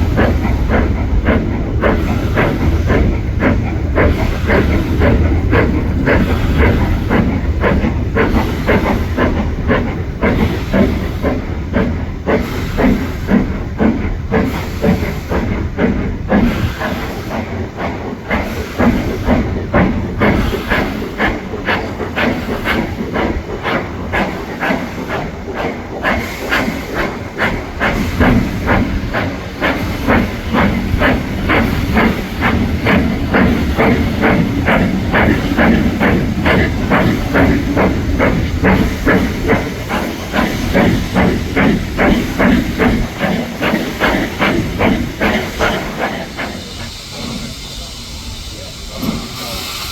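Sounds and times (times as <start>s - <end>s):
steam locomotive exhaust beating: 0.0s - 49.9s.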